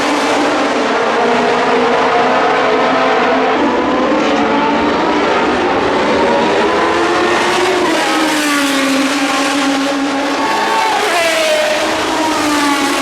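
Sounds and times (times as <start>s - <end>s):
race car engines running hard: 0.0s - 13.0s.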